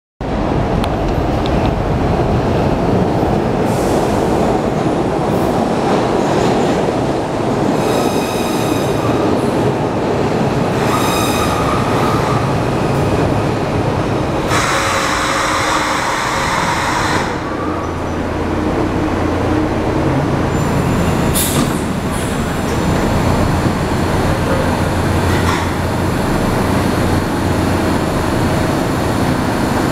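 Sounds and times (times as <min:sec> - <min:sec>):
rumble of wheels on rail: 0:00.2 - 0:29.9
subway train braking: 0:00.2 - 0:29.9.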